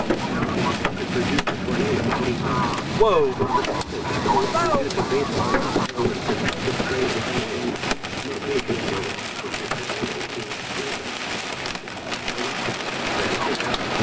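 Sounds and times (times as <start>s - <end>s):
hail and rain on car roof: 0.0s - 14.0s.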